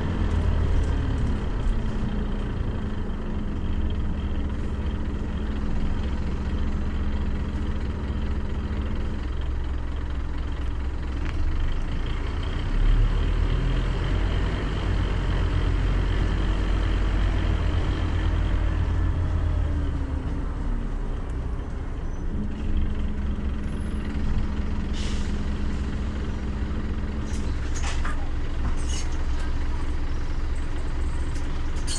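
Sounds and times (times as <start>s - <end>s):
bus diesel engine: 0.0s - 31.9s.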